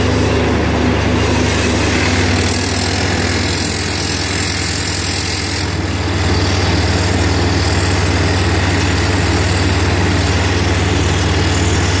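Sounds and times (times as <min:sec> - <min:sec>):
drill rig engine drone: 0:00.0 - 0:12.0.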